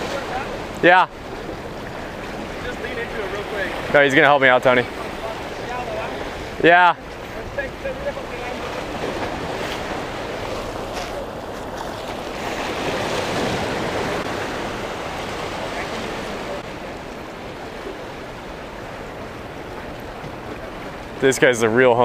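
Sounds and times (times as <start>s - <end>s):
surf washing over boulders: 0.0s - 22.0s.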